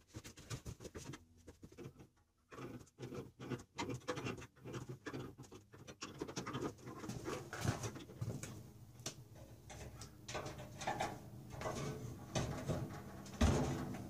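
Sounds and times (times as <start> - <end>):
fittings clicking and scraping: 0.2 - 14.0.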